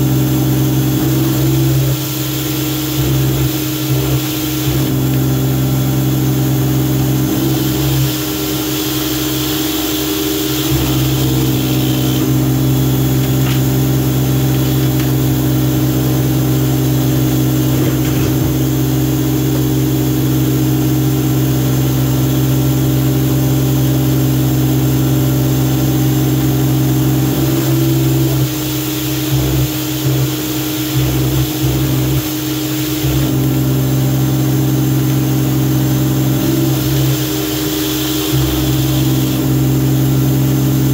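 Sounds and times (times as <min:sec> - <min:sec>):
water jet hissing onto plastic: 0:00.0 - 0:21.0, 0:26.6 - 0:40.9
pressure washer motor hum: 0:00.0 - 0:40.9.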